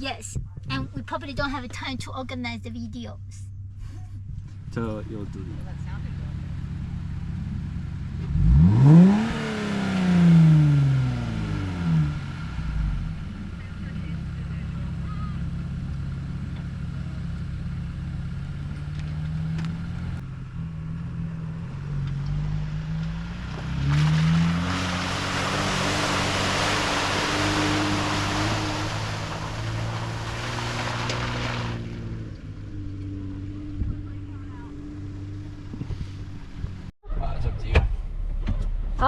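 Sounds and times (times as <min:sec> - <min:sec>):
car engine driving: 0:00.0 - 0:39.0.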